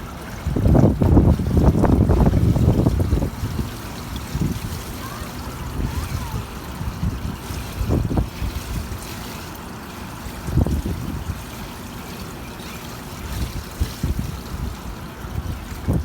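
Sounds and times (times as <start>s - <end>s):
wind rumble on microphone: 0.0s - 9.2s, 10.4s - 11.6s, 13.2s - 16.0s
water trickling and splashing: 0.0s - 16.0s.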